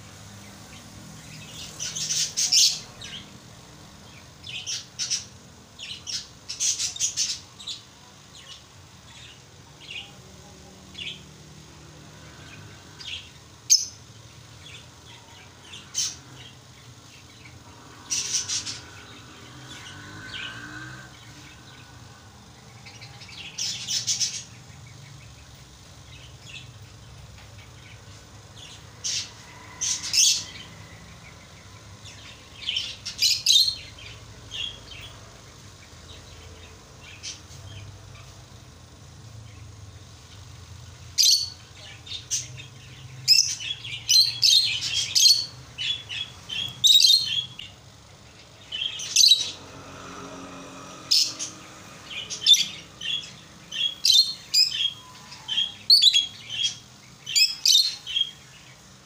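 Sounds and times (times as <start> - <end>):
lovebirds chirping: 0.0 - 59.0.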